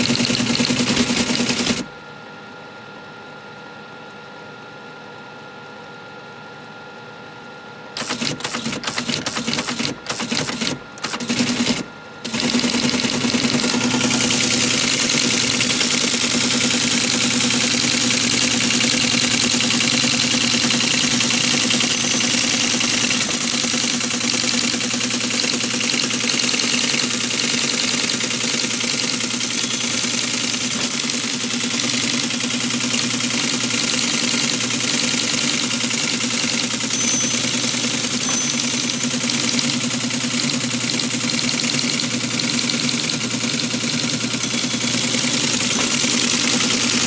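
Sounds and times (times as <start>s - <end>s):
teleprinter typing clatter: 0.0s - 1.9s, 8.0s - 47.0s
motor hum: 7.9s - 47.0s.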